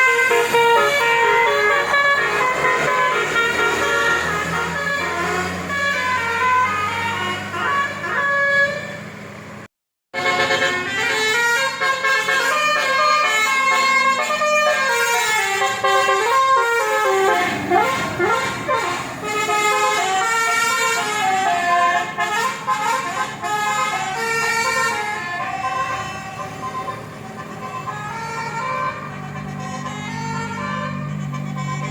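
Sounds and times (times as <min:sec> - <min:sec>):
musical air horn playing melody: 0:00.0 - 0:09.0, 0:10.1 - 0:31.9.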